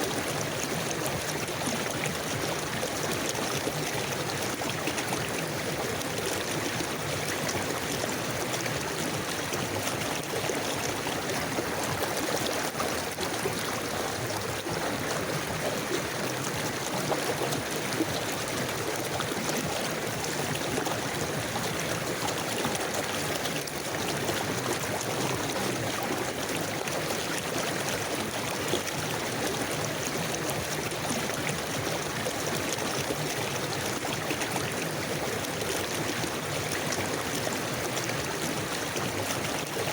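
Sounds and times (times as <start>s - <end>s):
river water flowing and gurgling: 0.0s - 39.9s.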